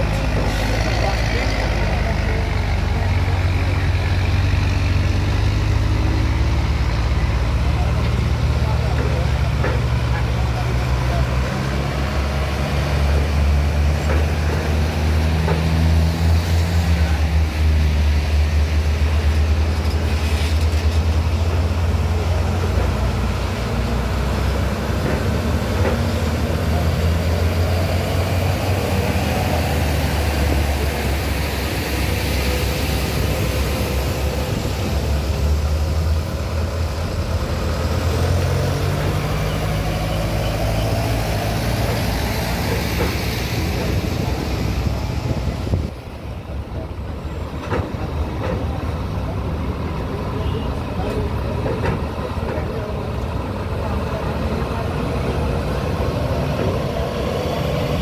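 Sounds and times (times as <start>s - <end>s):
diesel truck engines: 0.0s - 58.0s.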